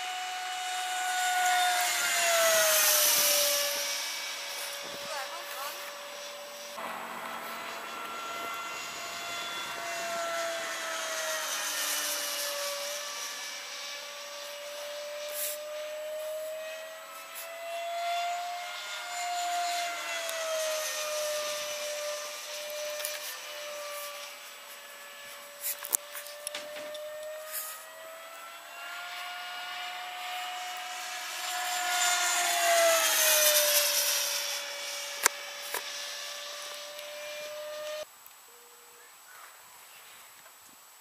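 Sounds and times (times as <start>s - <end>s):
model jet fan whining: 0.0s - 41.0s.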